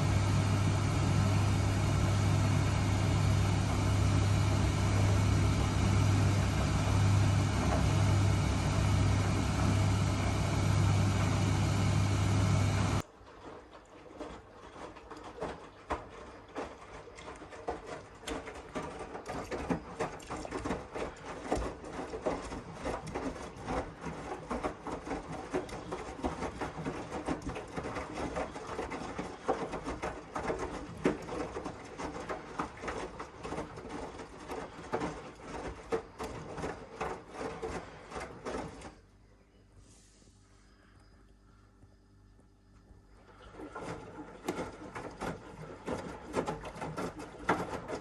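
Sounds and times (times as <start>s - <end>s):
washing machine running: 0.0s - 39.6s, 42.4s - 48.0s.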